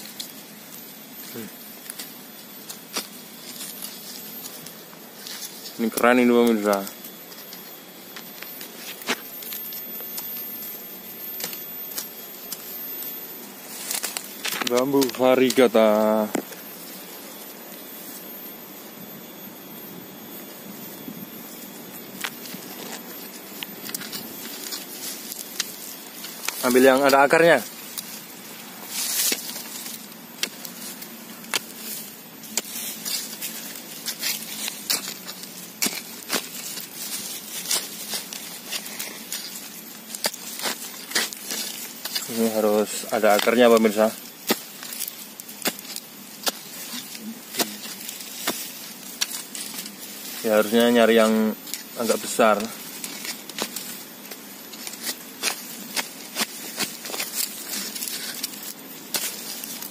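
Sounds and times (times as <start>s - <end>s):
dry leaves rustling: 0.0s - 18.8s, 20.1s - 59.9s.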